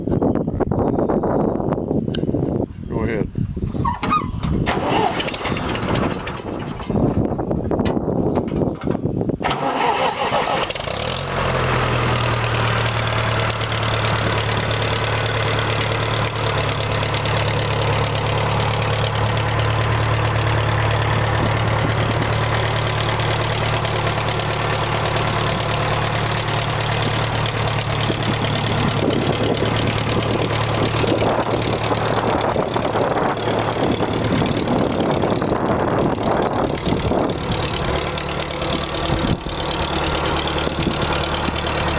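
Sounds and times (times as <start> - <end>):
tractor engine starting and idling: 3.8 - 41.9.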